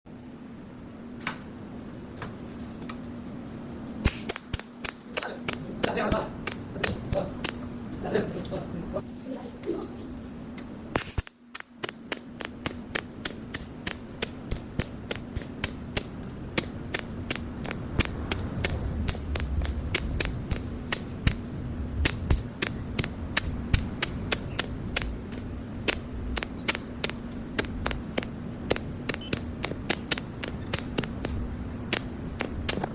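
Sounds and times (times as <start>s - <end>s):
welding hum with sharp ticks: 0.6s - 8.6s, 10.4s - 32.9s.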